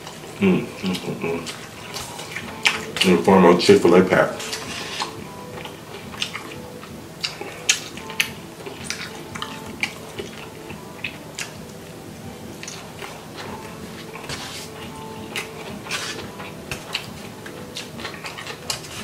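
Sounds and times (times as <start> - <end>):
wet chewing and lip-smacking: 0.0 - 3.3, 4.4 - 19.0.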